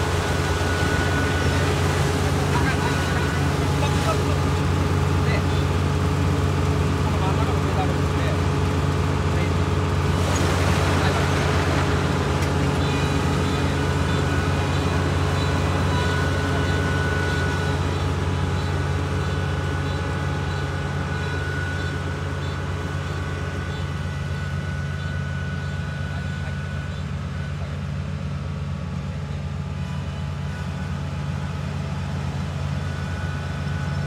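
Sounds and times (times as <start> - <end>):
combine harvester engine drone: 0.0 - 34.0.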